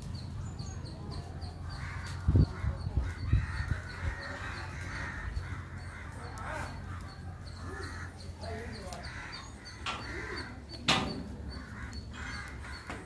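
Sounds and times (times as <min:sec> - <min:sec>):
crows cawing: 0:01.5 - 0:13.0.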